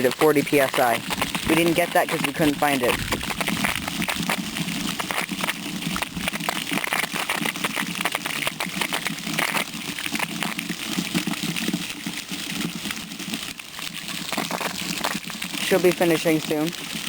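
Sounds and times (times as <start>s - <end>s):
water gushing and splashing: 0.0s - 17.0s.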